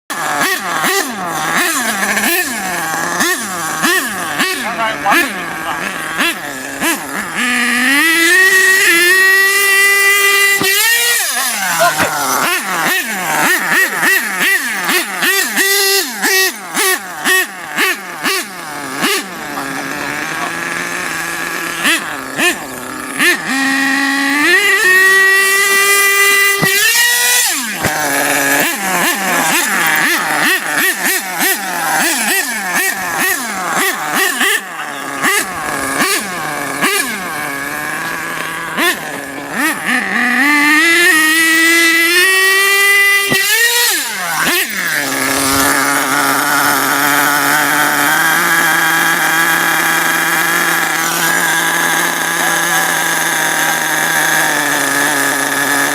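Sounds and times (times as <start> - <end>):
rc car motor revving: 0.1 - 55.9.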